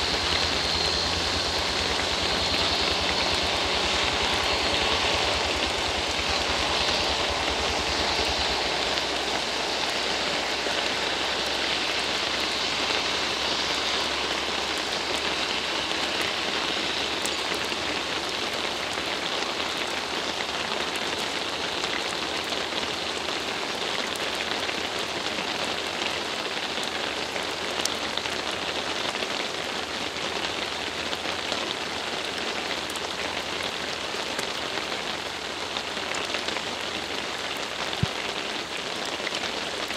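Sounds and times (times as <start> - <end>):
heavy rain on road: 0.0 - 39.9.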